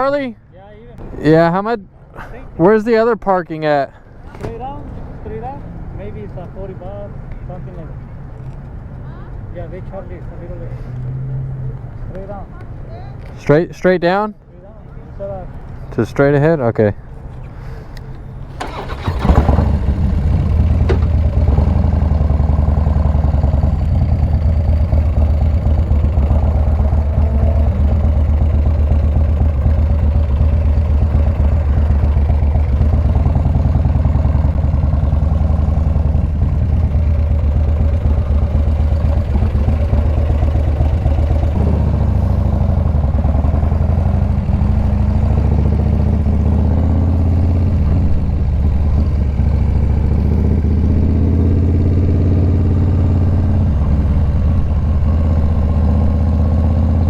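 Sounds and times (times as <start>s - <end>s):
motorcycle engine rumbling: 0.8s - 3.0s, 3.9s - 13.5s, 16.9s - 57.0s.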